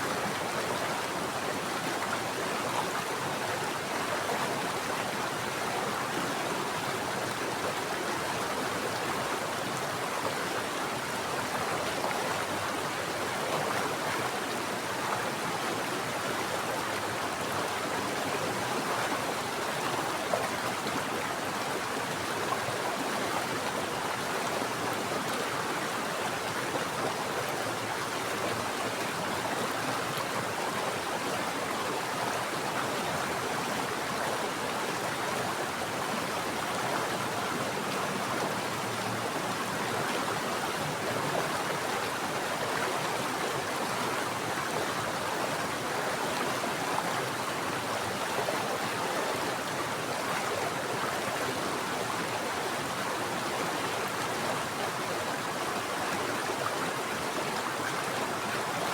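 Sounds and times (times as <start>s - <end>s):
mountain stream running: 0.0s - 58.9s.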